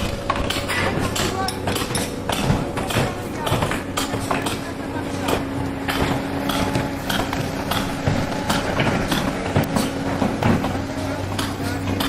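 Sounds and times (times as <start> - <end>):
irregular clanks and knocks: 0.0 - 12.0
machinery humming: 0.0 - 12.0.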